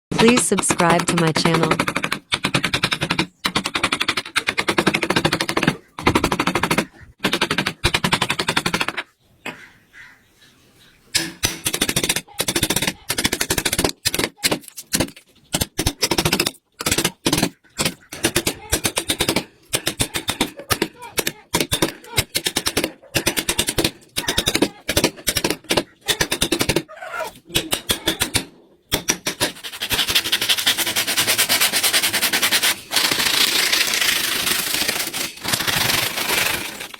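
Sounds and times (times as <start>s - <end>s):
carving tool rattling on wood: 0.2s - 9.1s, 11.2s - 26.9s, 27.5s - 36.9s.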